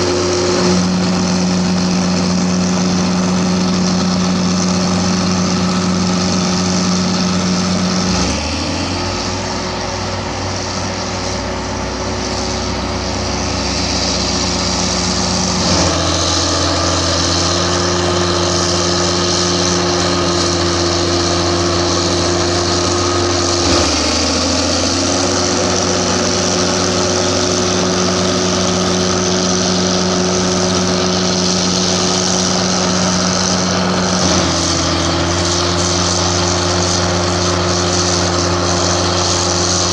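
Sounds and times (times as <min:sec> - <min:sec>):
heavy machine diesel engine: 0:00.0 - 0:39.9.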